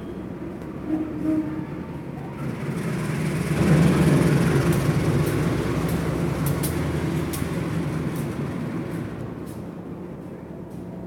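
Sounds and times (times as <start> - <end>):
diesel locomotive passing: 0.0 - 10.7.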